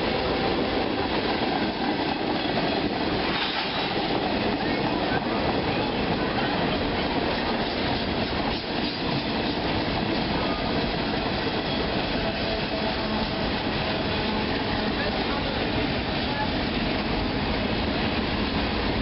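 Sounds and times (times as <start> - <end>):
train cars rolling on rails: 0.0 - 19.0.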